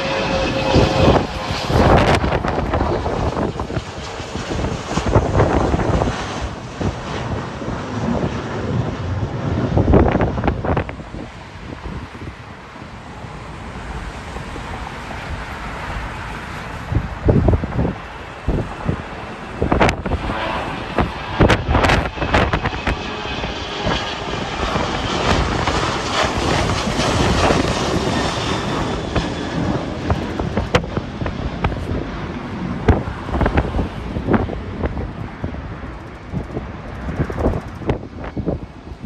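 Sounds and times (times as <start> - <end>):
jet engines passing: 0.0 - 39.0
wind buffeting microphone: 0.0 - 39.0.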